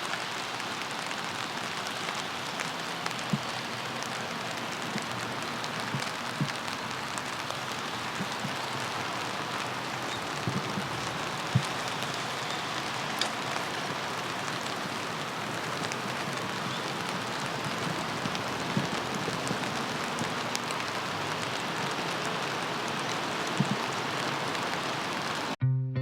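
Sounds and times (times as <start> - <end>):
steady rain hiss: 0.0 - 25.6.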